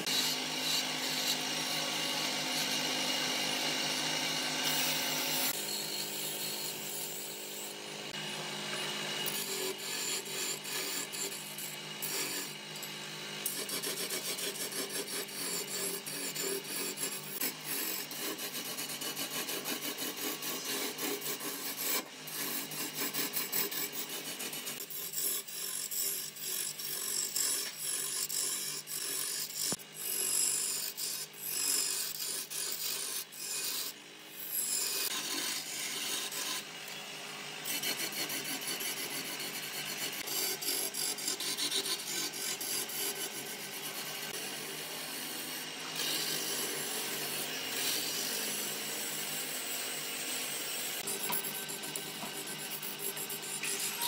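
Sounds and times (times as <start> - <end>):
lathe tool scraping wood: 0.0 - 54.0.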